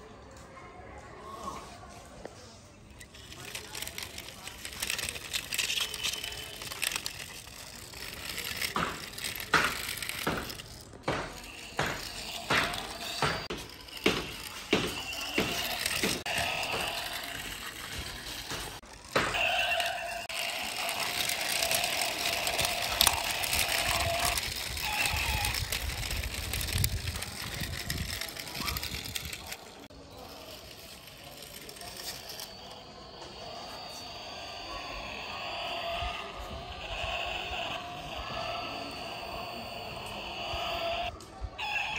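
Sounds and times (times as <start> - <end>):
toy vehicles clicking on concrete: 1.1 - 41.9.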